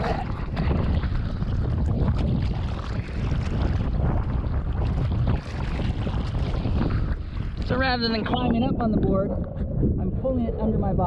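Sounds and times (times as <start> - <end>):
water sloshing and splashing: 0.0 - 9.7
wind rumbling on microphone: 0.0 - 11.0.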